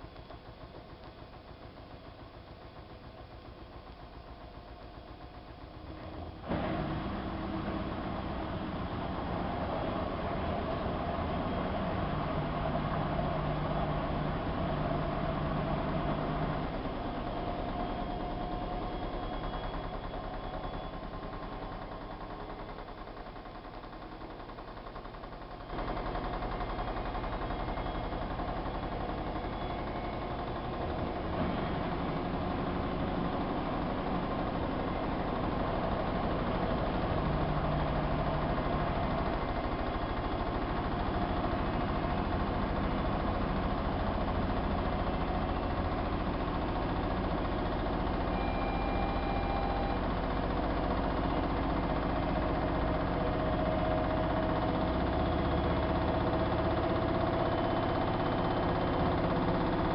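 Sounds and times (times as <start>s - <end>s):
faint whine: 0.0s - 23.3s, 25.7s - 59.9s
washing machine running: 0.0s - 59.9s.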